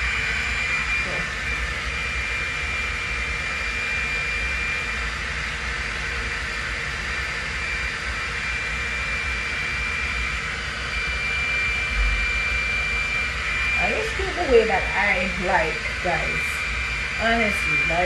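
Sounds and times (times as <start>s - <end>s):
thin high whine: 0.0s - 5.2s, 5.8s - 18.0s
hair dryer blowing air: 0.0s - 18.0s.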